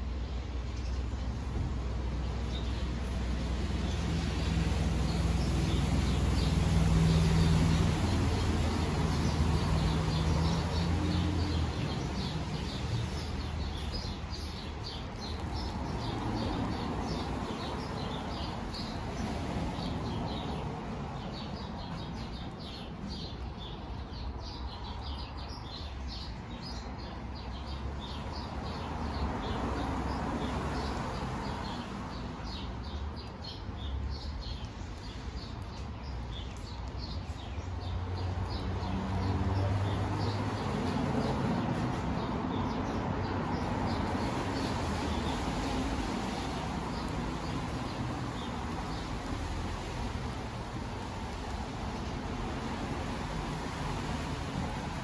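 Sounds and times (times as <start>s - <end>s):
small birds chirping: 2.2s - 55.0s.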